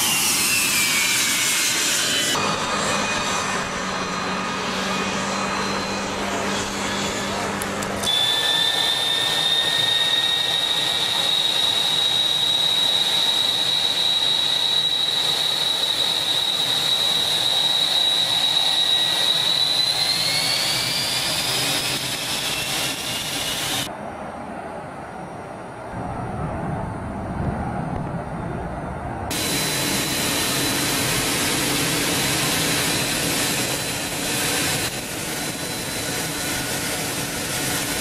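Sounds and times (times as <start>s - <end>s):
faint jet noise outside: 0.0s - 38.0s
jet engine whine in cockpit: 0.0s - 38.0s.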